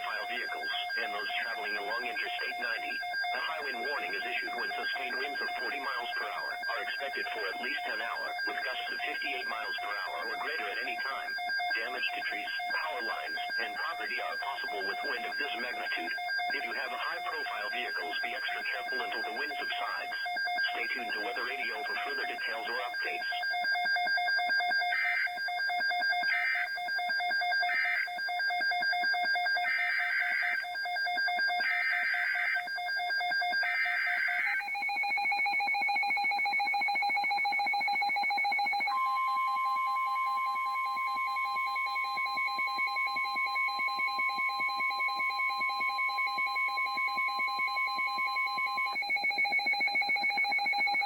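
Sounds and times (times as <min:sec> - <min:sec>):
steady pure alarm tone: 0:00.0 - 0:51.0.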